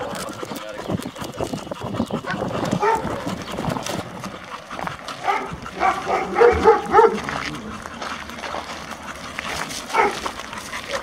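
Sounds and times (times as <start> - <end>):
footsteps on gravel road: 1.7 - 11.0.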